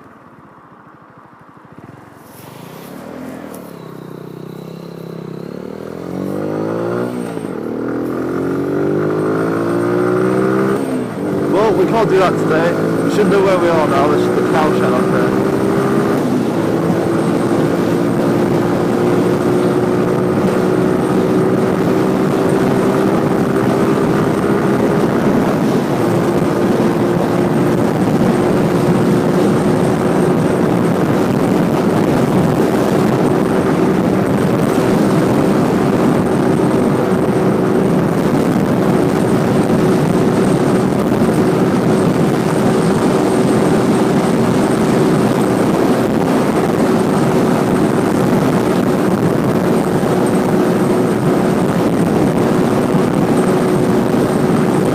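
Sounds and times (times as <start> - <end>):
motorcycle engine cruising: 0.0 - 54.9
wind rushing while riding: 0.0 - 54.9.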